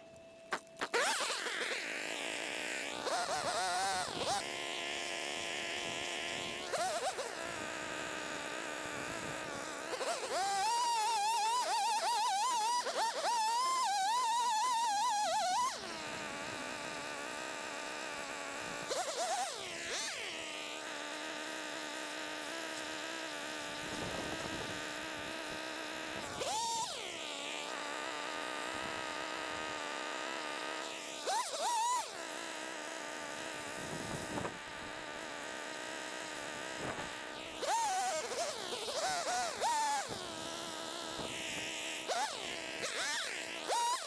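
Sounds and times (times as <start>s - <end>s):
chainsaw engine revving: 0.0s - 44.0s.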